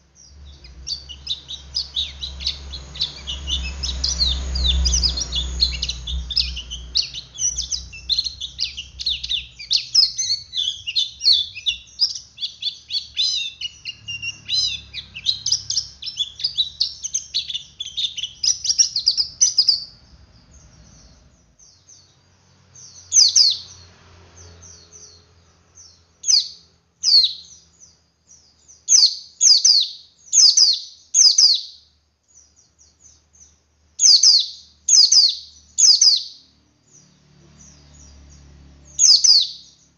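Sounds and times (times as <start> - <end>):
bird twittering chatter: 0.0 - 39.9.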